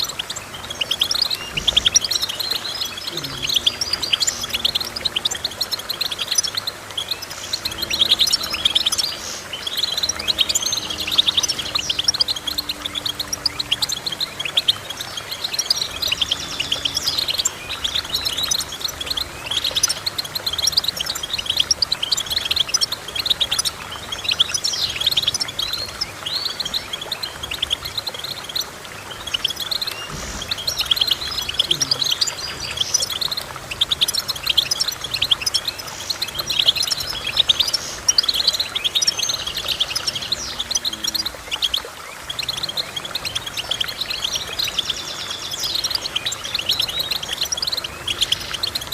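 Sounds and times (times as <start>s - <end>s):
small songbirds twittering: 0.0s - 48.9s.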